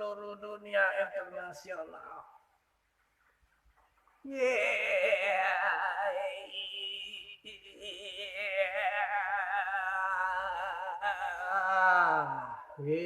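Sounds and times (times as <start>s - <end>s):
opera-like singing with vibrato: 0.0s - 2.5s, 4.2s - 13.0s.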